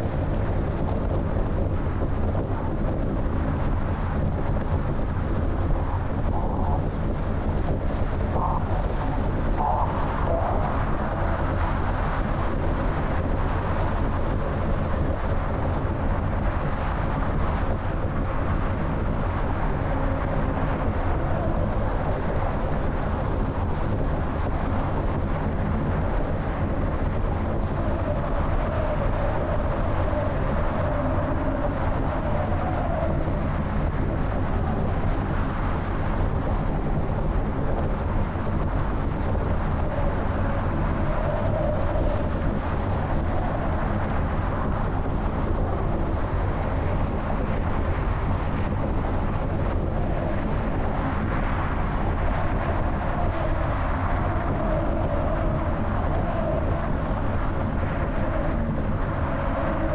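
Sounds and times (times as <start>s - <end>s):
rumble of tyres and engine: 0.0s - 59.9s
wind rushing over microphone: 0.0s - 59.9s.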